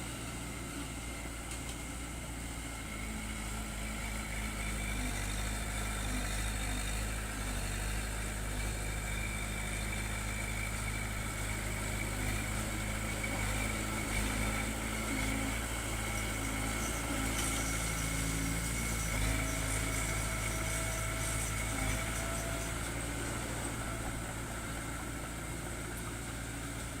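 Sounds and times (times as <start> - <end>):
diesel engine running at low revs: 0.0 - 27.0.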